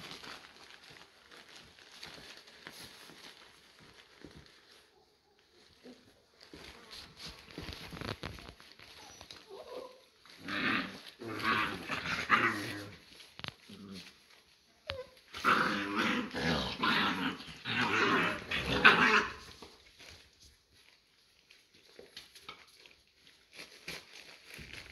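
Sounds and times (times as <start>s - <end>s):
scuffling: 0.0s - 22.3s
puppies growling and play-fighting: 0.1s - 21.0s.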